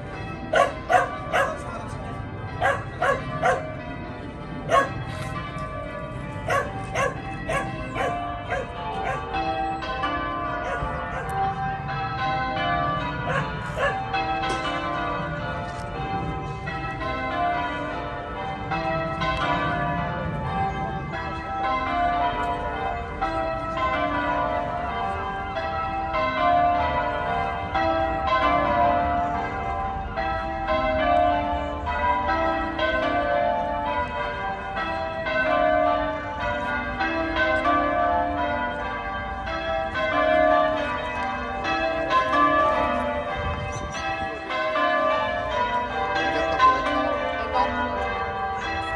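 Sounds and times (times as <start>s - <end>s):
church tower bells ringing: 0.0s - 48.9s.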